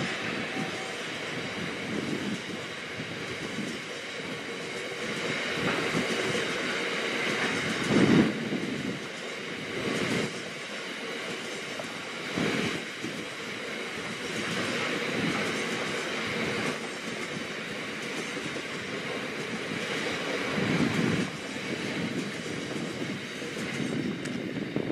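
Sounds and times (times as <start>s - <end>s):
train wheels rolling on track: 0.0s - 24.9s.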